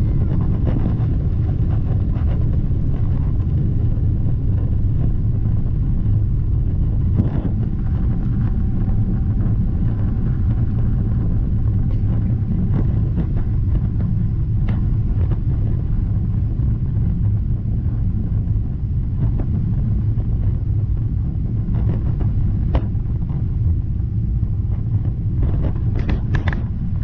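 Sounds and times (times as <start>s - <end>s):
jet engine cabin rumble: 0.0s - 27.0s.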